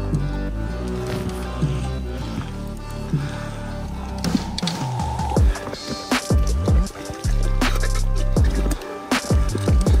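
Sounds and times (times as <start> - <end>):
music with sliding bass notes: 0.0 - 10.0.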